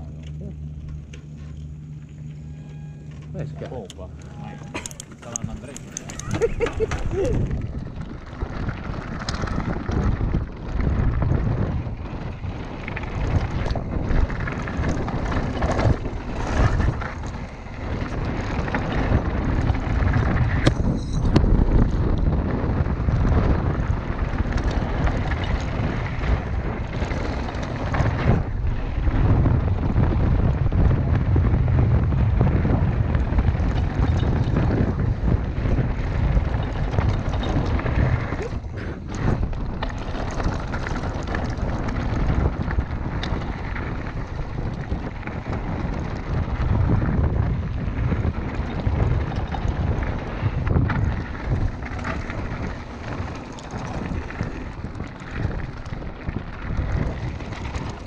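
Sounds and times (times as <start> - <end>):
bike frame rattling: 0.0 - 58.0
wind buffeting microphone: 0.0 - 58.0
tyres rolling on loose stones: 3.2 - 58.0.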